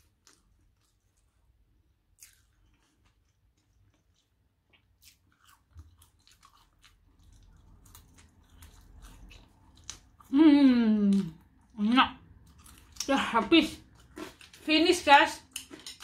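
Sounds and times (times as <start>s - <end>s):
person chewing: 0.0s - 14.7s, 15.4s - 16.0s.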